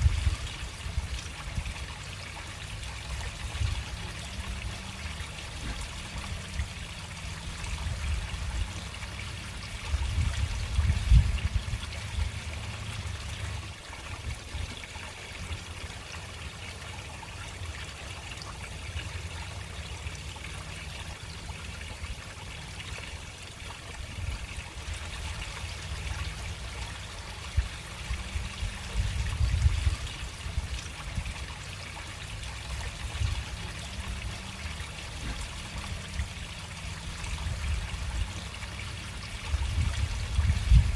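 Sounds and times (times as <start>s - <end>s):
water trickling into a drain: 0.0s - 40.9s.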